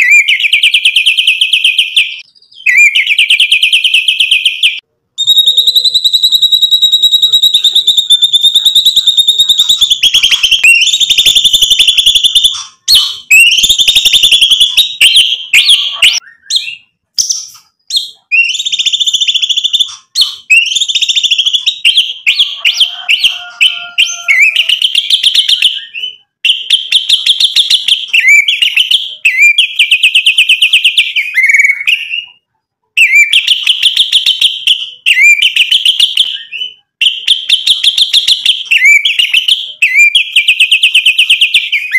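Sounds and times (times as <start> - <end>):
bird singing: 0.0 - 32.4, 33.0 - 41.9.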